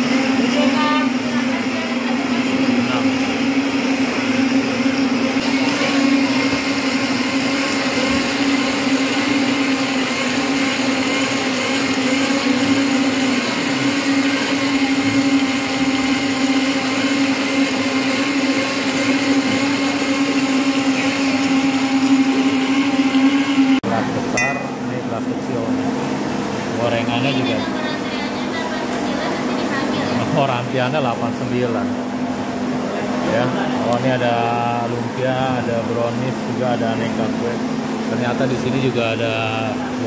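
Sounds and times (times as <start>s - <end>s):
blenders running at high speed: 0.0s - 40.0s.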